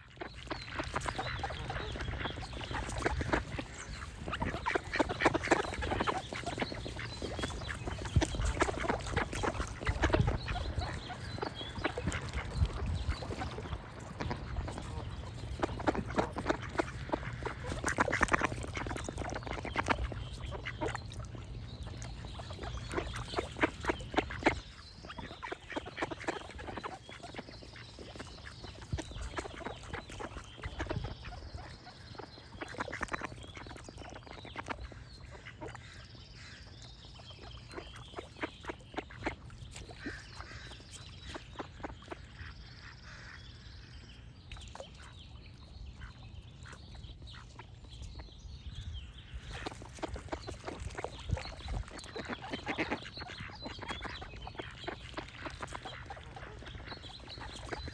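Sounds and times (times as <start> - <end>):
ducks quacking: 0.0 - 43.7, 49.3 - 57.9.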